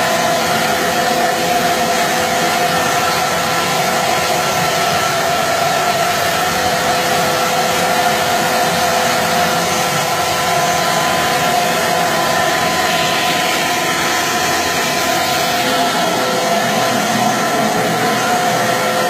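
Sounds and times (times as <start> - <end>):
wet and dry vacuum motor whine: 0.0 - 19.0.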